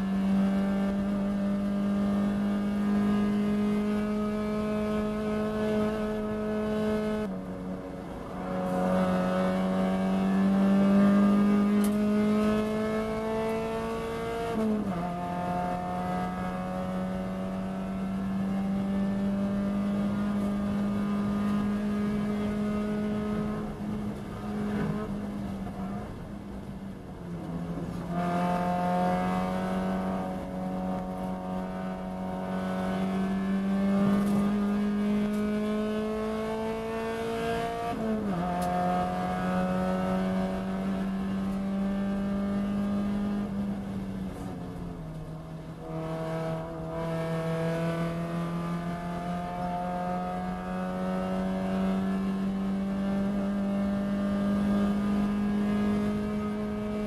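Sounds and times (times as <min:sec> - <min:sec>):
race car engine revving: 0:00.0 - 0:07.3, 0:08.6 - 0:26.2, 0:27.4 - 0:57.0.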